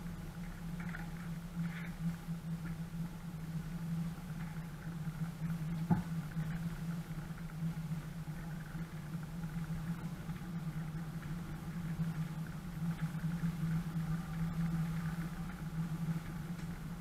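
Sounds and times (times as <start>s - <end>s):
engine droning at low revs: 0.0s - 17.0s.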